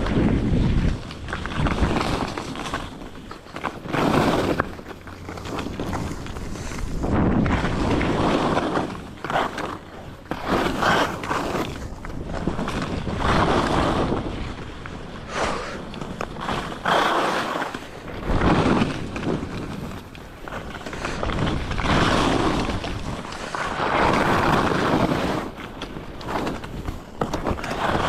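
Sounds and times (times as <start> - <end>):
skis scraping through crusty snow: 0.0 - 28.0.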